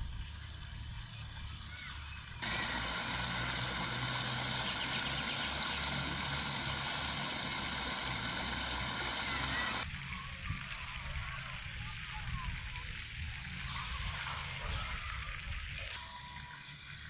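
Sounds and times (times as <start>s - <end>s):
outdoor ambience: 0.0s - 17.0s
fountain water splashing: 2.4s - 17.0s.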